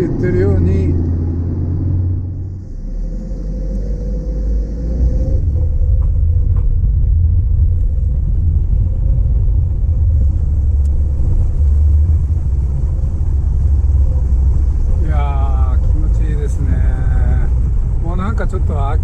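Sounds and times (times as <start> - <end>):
car engine rumble: 0.0 - 19.0
wind: 0.0 - 19.0.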